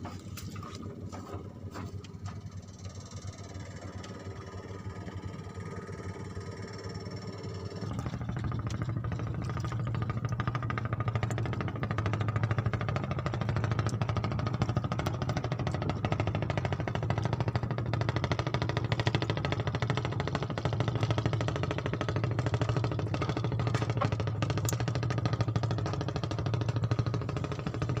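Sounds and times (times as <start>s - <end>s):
small engine knocking: 2.2s - 28.0s.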